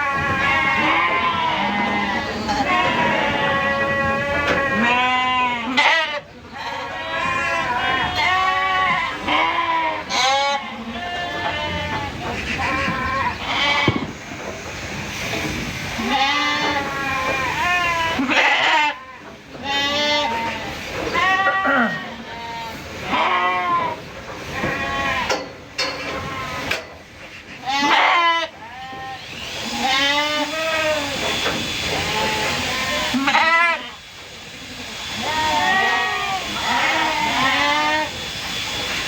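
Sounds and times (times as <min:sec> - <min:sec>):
sheep bleating: 0:00.0 - 0:14.1, 0:16.0 - 0:25.4, 0:27.6 - 0:31.2, 0:32.0 - 0:34.0, 0:35.2 - 0:38.2.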